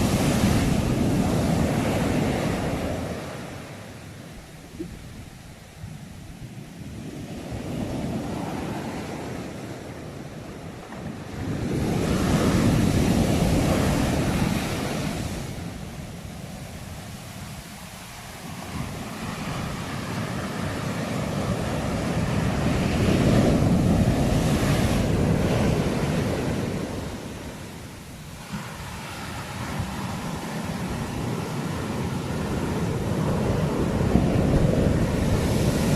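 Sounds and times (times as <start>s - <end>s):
sea waves breaking: 0.0s - 35.9s.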